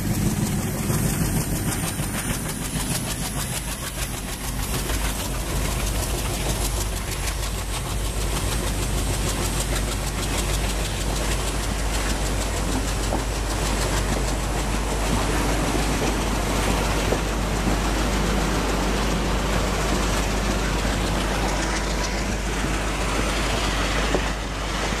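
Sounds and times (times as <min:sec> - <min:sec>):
diesel locomotives running hard: 0:00.0 - 0:25.0
train wheels rattling on track: 0:00.0 - 0:25.0.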